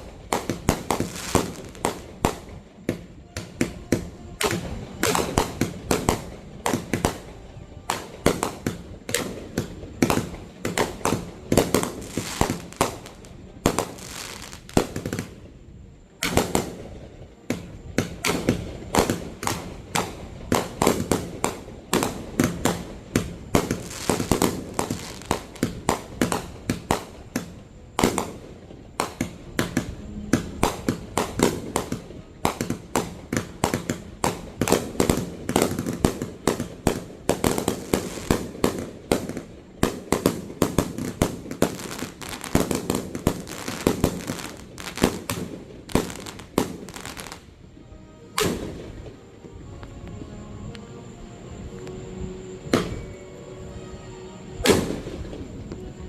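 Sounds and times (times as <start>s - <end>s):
fireworks bangs: 0.0s - 15.6s, 16.2s - 47.5s.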